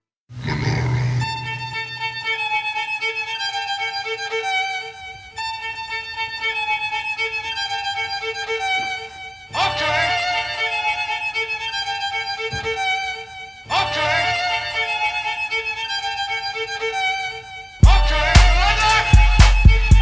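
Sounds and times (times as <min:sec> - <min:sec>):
violin melody: 0:01.2 - 0:20.0.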